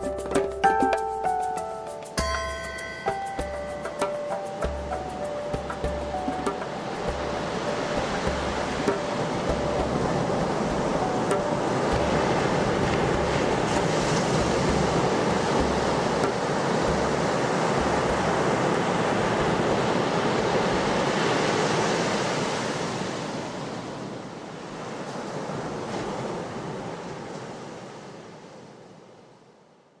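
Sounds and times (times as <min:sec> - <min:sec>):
ocean waves washing: 0:00.0 - 0:28.5.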